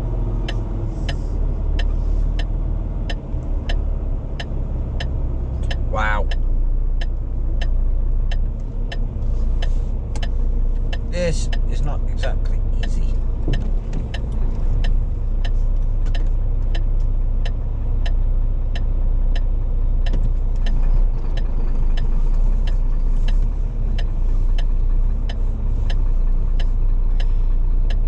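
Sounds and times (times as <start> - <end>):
lorry diesel engine rumble: 0.0 - 28.0.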